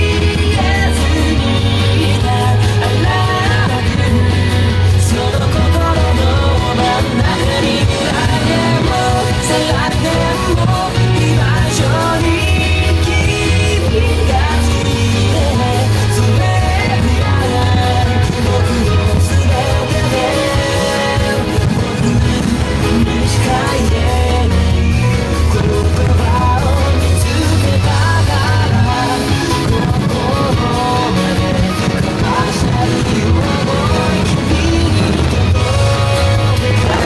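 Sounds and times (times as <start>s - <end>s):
rock song with singing and guitar: 0.0s - 37.0s.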